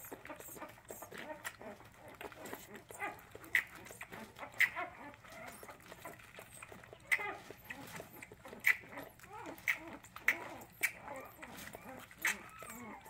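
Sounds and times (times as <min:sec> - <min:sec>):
puppy suckling from bottle: 0:00.0 - 0:13.0.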